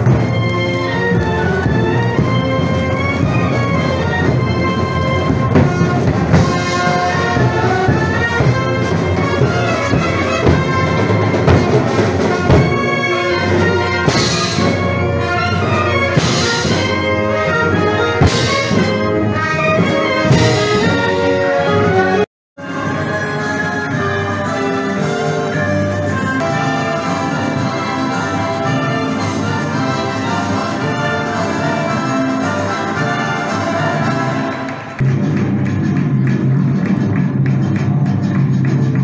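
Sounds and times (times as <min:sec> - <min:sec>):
marching brass band playing: 0:00.0 - 0:39.0.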